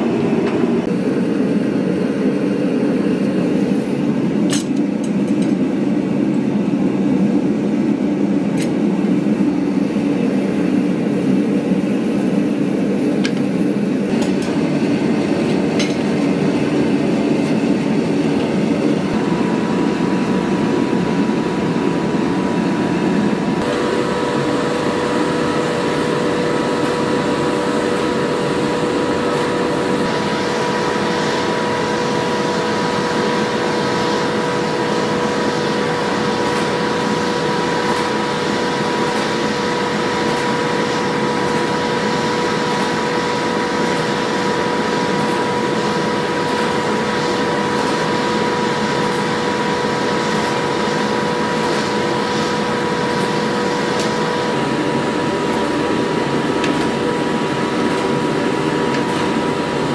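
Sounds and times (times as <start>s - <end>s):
machine whining: 0.0s - 59.9s.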